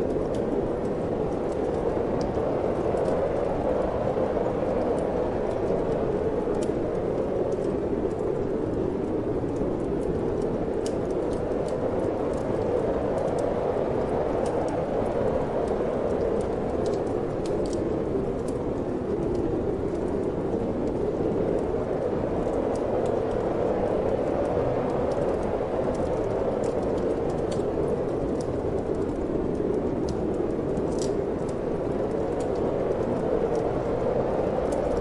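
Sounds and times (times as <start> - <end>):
rushing wind: 0.0 - 35.0
wood fire crackling: 0.0 - 35.0.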